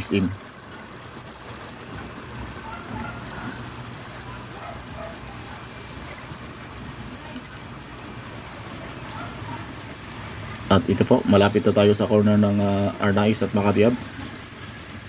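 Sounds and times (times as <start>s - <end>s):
traffic: 0.0s - 15.0s.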